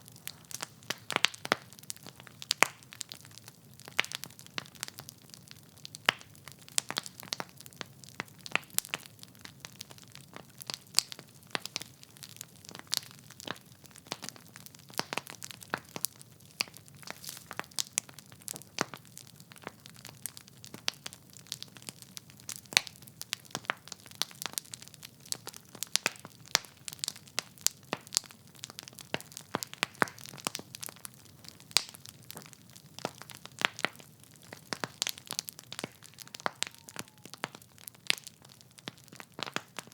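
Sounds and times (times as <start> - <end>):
logs crackling and popping in fire: 0.0 - 39.9.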